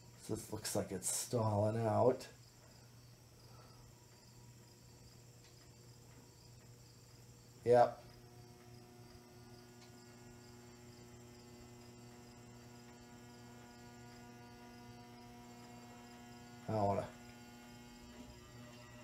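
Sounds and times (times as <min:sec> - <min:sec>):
ceiling fan motor buzzing: 0:00.0 - 0:19.0.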